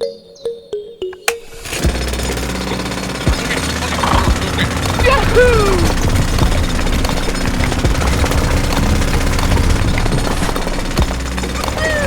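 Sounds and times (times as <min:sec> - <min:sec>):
small motor clattering: 0:01.4 - 0:12.0.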